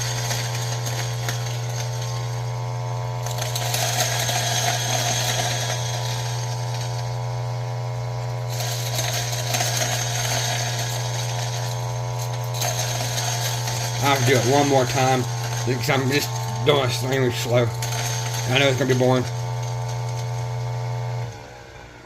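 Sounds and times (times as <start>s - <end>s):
coffee beans crackling: 0.0s - 21.3s
coffee grinder motor running: 0.0s - 22.0s.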